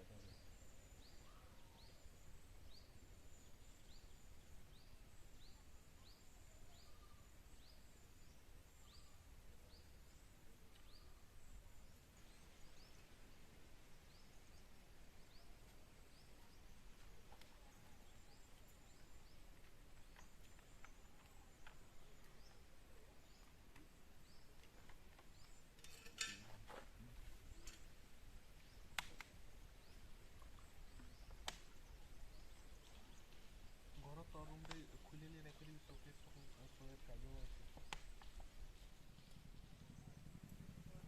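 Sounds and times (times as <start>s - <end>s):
faint outdoor ambience: 0.0s - 41.0s.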